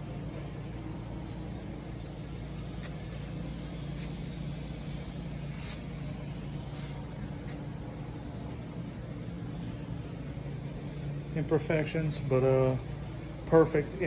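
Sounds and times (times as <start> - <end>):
low mechanical hum with hiss: 0.0 - 14.0.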